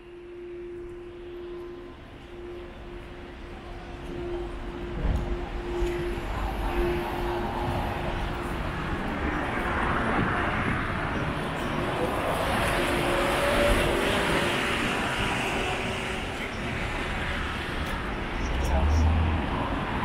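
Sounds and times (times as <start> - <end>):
traffic rumble: 0.0 - 20.0
faint voices: 0.2 - 20.0.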